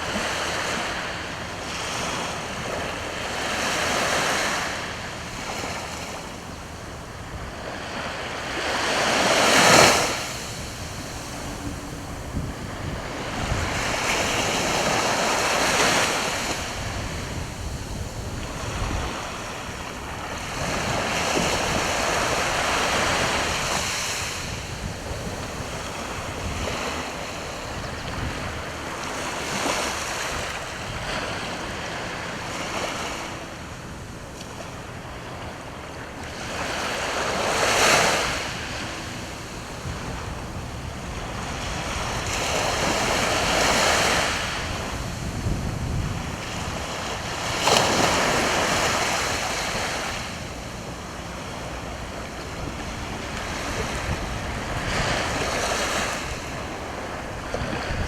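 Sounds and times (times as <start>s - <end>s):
wind on microphone: 0.0s - 33.4s, 36.4s - 58.0s
sea waves breaking on shore: 0.0s - 58.0s.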